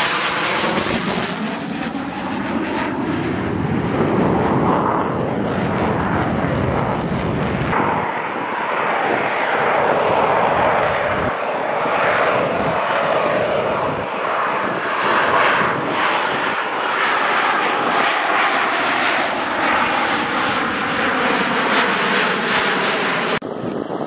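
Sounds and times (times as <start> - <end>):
jets roaring overhead: 0.0 - 24.0.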